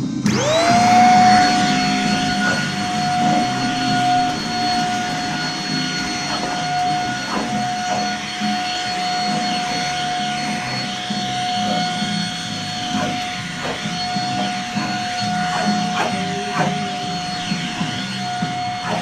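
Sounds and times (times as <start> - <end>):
vacuum cleaner running on carpet: 0.0 - 19.0.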